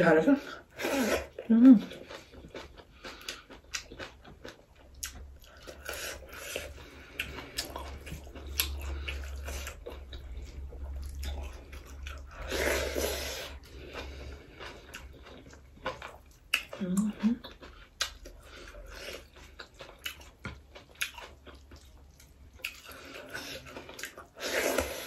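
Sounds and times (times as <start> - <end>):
person chewing and lip smacking: 1.2 - 25.0.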